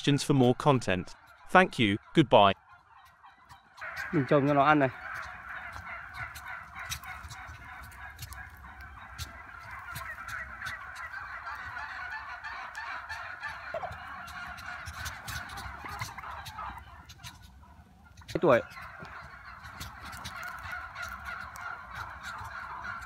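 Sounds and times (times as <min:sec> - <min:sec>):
turkeys calling: 0:00.0 - 0:23.0.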